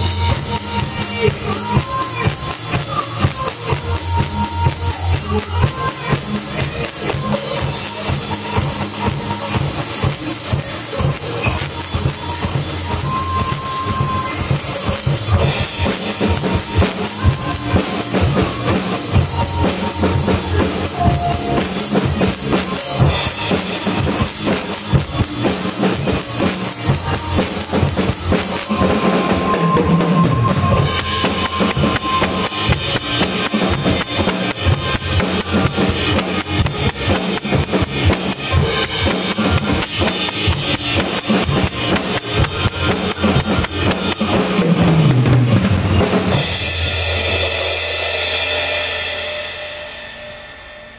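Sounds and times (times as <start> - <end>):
recorded pop song: 0.0 - 45.1
drum kit playing: 0.0 - 50.9.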